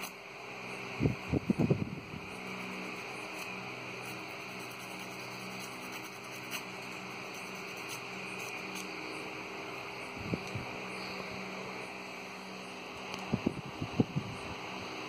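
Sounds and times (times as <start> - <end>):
constant hiss: 0.0 - 15.0.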